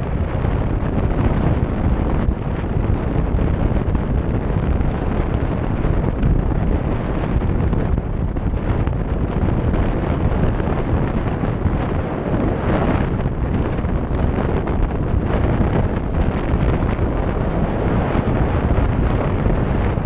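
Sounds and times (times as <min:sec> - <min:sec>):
motorcycle engine and tyres rumbling: 0:00.0 - 0:20.0
wind buffeting microphone: 0:00.0 - 0:20.0.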